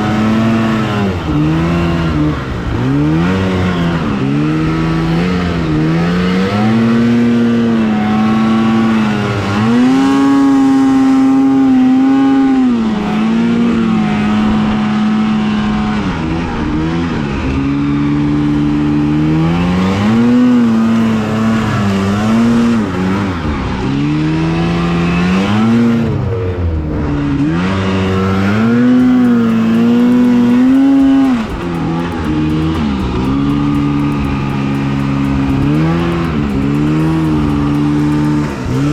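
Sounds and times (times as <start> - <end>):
snowmobile engine revving: 0.0 - 26.1, 27.5 - 38.9.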